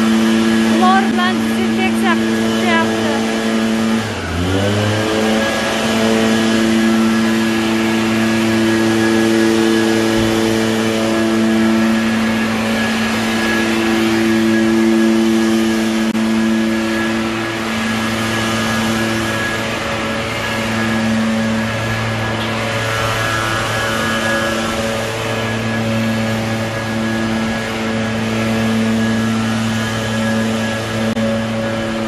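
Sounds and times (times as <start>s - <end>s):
sprayer engine droning: 0.0s - 32.0s.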